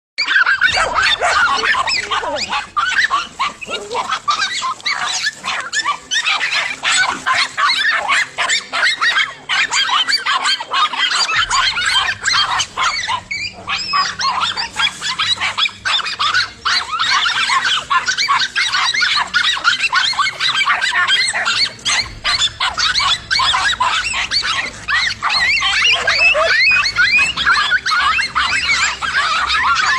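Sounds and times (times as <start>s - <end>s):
dogs barking and yapping: 0.2s - 29.9s.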